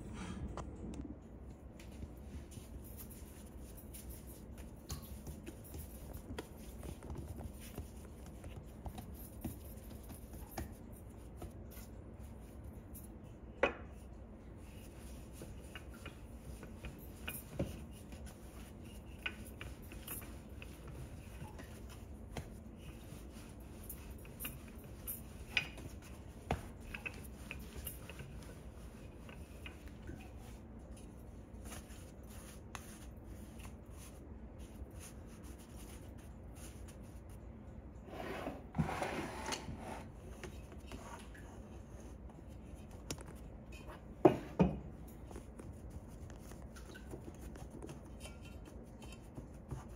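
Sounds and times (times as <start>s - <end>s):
rubbing and patting dough: 1.4s - 49.9s.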